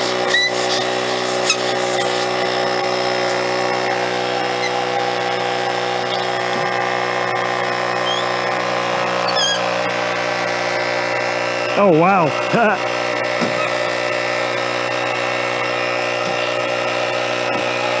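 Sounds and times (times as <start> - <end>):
electric air pump running: 0.0 - 18.0.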